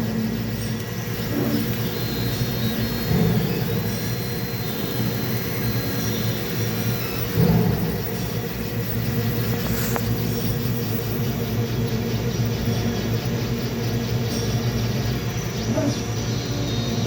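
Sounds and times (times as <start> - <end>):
printing machine humming: 0.0 - 17.0.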